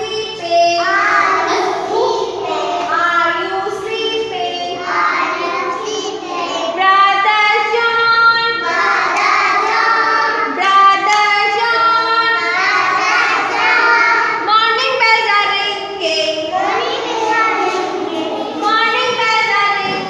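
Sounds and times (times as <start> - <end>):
young children singing: 0.0 - 20.0.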